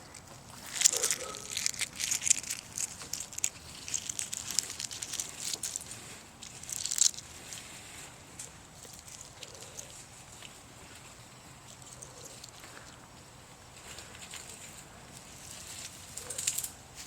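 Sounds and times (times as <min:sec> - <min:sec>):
dry twigs crackling: 0:00.0 - 0:17.0.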